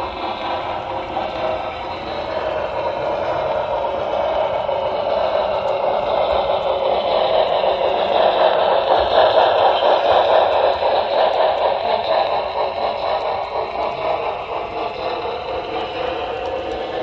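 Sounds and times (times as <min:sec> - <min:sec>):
model train wheels on rails: 0:00.0 - 0:17.0
small drive motor: 0:00.0 - 0:17.0.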